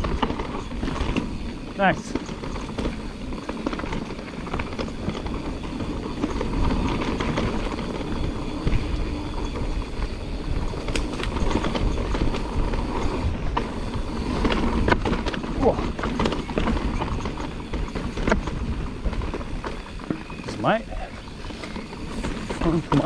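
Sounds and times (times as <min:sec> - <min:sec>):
bike clattering: 0:00.0 - 0:23.0
bike tyres rattling over ground: 0:00.0 - 0:23.0
wind rumble on microphone: 0:00.0 - 0:23.0.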